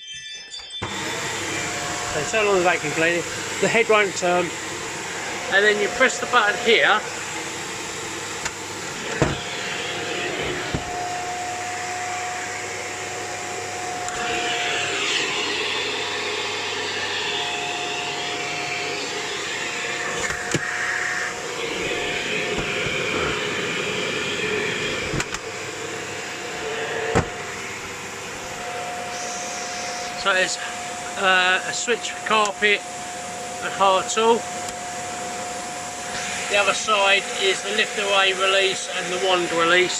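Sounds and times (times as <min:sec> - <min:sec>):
vacuum cleaner running: 0:00.8 - 0:39.9.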